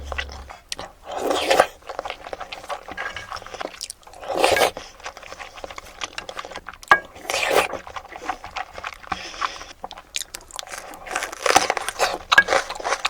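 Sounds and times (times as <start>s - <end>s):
wet chewing and mouth clicks: 0.0s - 13.0s.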